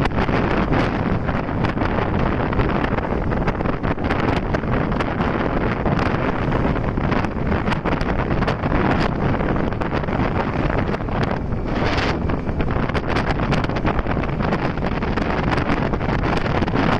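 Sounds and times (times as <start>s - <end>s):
road noise: 0.0s - 16.9s
wind buffeting microphone: 0.0s - 16.9s.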